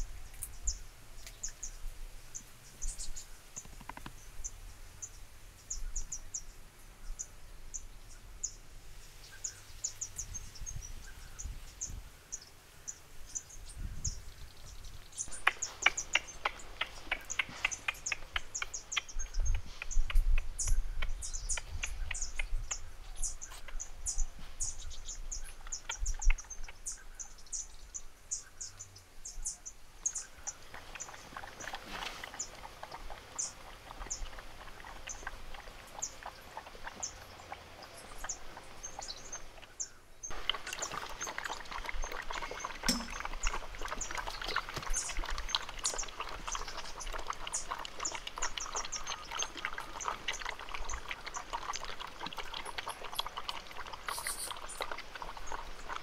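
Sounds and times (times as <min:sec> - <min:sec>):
birds chirping: 0:09.2 - 0:56.0.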